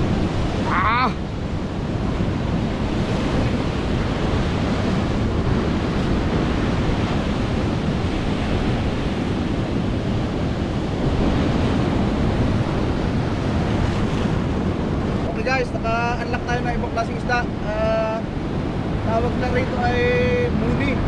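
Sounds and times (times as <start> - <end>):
surf breaking over rocks: 0.0 - 21.0
wind buffeting microphone: 0.0 - 21.0.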